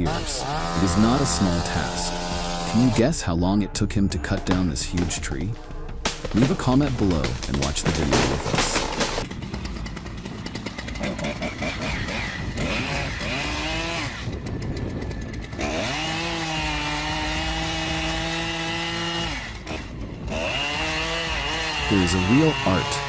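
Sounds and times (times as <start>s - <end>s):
chainsaw running: 0.0s - 3.0s, 6.0s - 23.0s.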